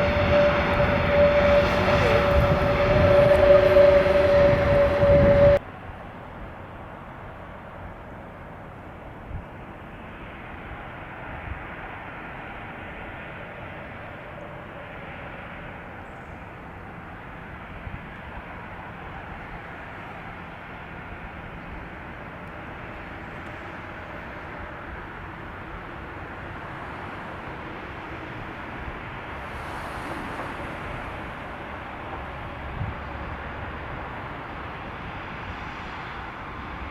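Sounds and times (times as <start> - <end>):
jet engine rumble: 0.0 - 5.6, 10.0 - 36.9.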